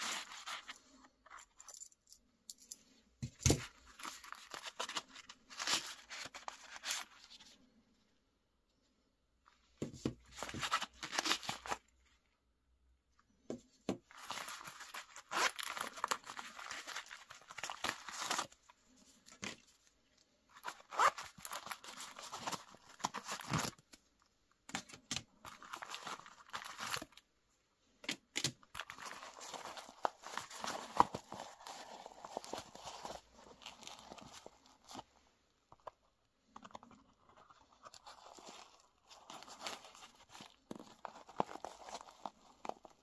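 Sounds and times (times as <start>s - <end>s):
fabric pouch rustling and crinkling: 0.0s - 1.7s, 3.3s - 7.6s, 10.0s - 12.0s, 14.0s - 24.0s, 25.3s - 27.3s, 28.3s - 43.0s.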